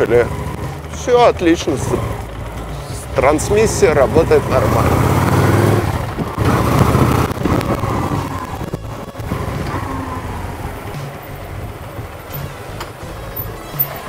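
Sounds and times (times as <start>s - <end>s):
motorcycle engine riding past: 0.0s - 14.0s.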